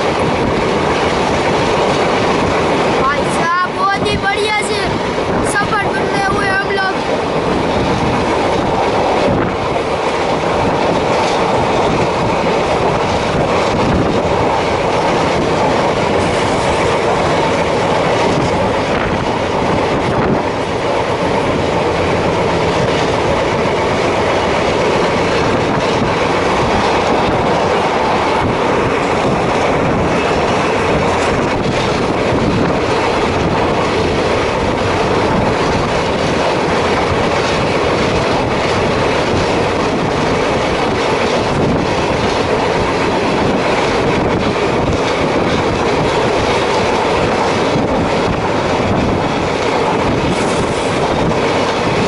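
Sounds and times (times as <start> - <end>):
train wheels on rail: 0.0 - 52.0.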